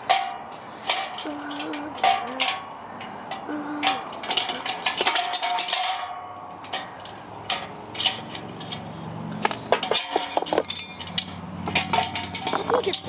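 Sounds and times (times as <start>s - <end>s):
metal fan parts clinking: 0.0s - 13.0s.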